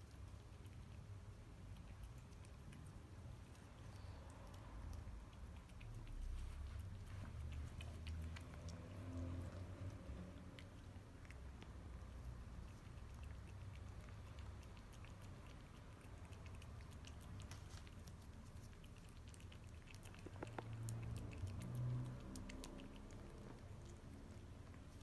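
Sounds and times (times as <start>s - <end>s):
kitten licking wet clicks: 0.0s - 25.0s
low steady hum: 0.0s - 25.0s.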